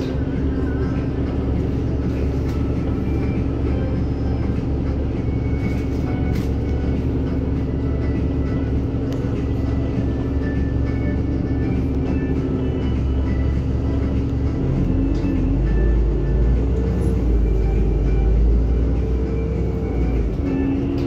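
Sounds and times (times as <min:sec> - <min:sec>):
bus engine drone: 0:00.0 - 0:21.0
constant low hum: 0:00.0 - 0:21.0
road noise: 0:00.0 - 0:21.0.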